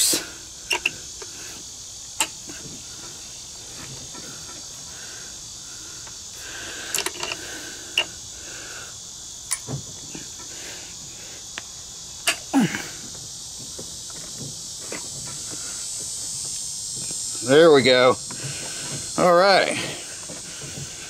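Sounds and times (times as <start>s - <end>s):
insect chorus: 0.0s - 21.0s.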